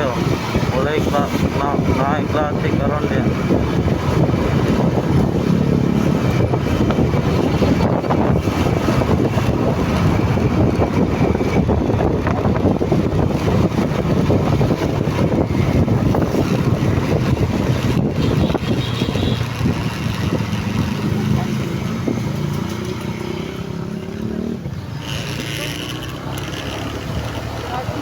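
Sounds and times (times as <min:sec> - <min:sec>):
motorcycle running: 0:00.0 - 0:28.0
wind rushing over microphone: 0:00.0 - 0:28.0.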